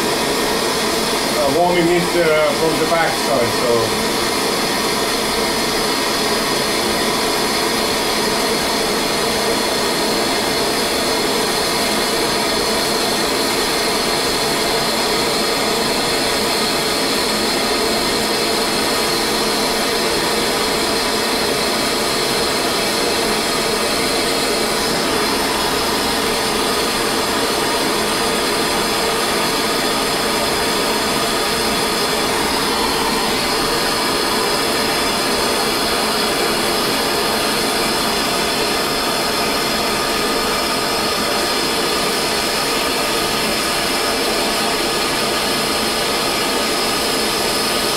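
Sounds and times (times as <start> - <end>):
gas torch flame hissing: 0.0 - 43.6.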